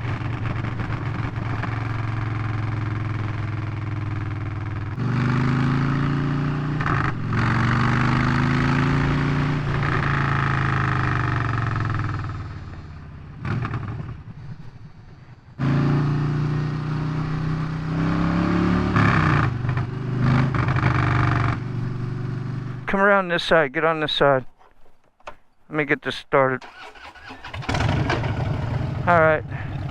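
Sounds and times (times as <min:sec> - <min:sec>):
motorcycle engine running: 0:00.0 - 0:22.9, 0:27.2 - 0:29.9.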